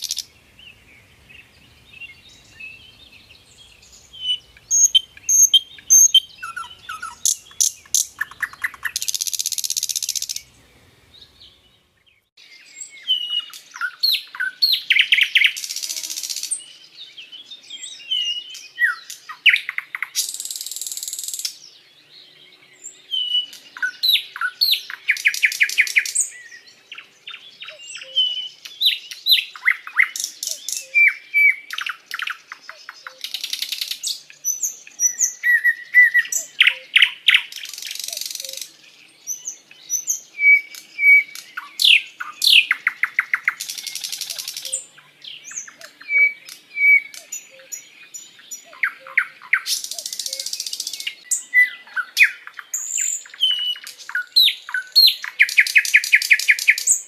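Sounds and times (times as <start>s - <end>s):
bird singing varied song: 0.0s - 57.0s.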